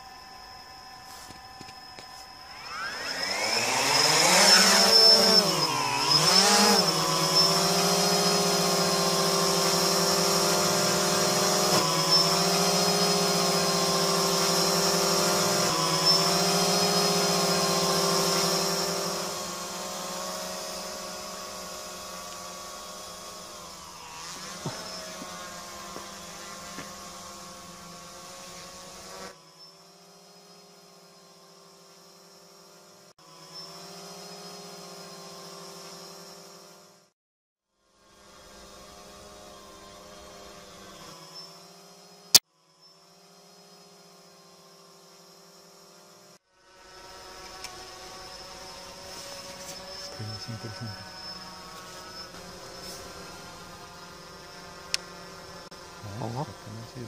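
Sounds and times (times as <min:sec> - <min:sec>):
drone propellers buzzing: 0:00.0 - 0:37.1, 0:38.0 - 0:57.0.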